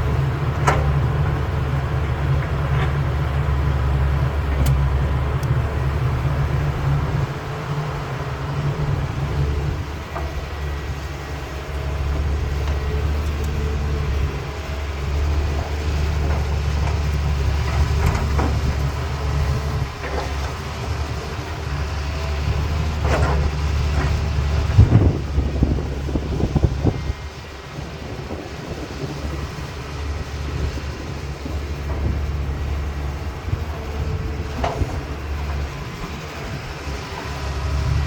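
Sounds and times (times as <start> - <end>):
excavator diesel engine rumbling: 0.0 - 38.0.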